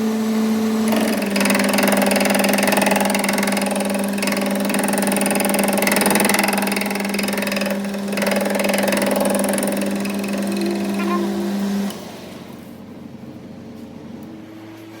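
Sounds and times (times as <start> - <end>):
motor-driven machine humming: 0.0 - 14.3.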